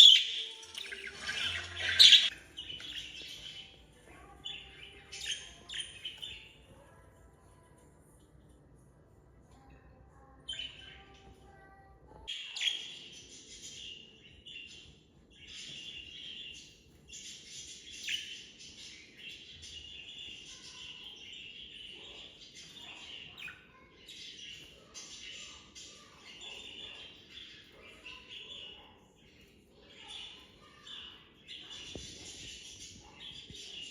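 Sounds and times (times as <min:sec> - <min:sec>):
budgies chirping and warbling: 0:00.0 - 0:07.0, 0:09.7 - 0:33.9.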